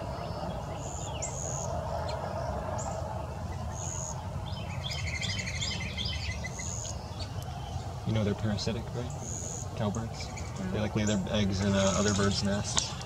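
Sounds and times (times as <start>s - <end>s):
songbirds whistling: 0.0s - 8.0s, 9.0s - 13.0s.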